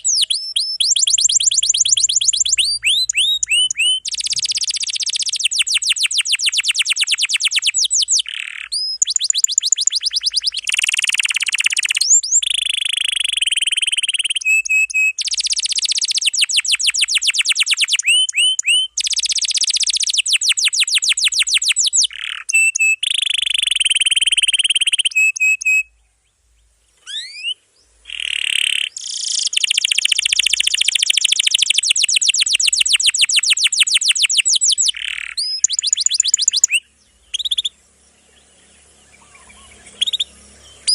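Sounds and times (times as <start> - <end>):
canary singing: 0.0 - 26.0, 27.0 - 40.9.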